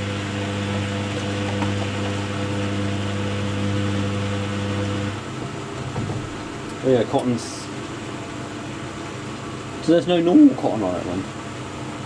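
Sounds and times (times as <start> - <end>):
water inlet valve humming: 0.0 - 12.0.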